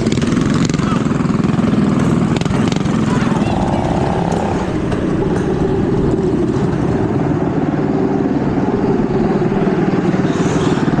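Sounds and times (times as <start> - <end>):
minibike engine puttering: 0.0 - 11.0.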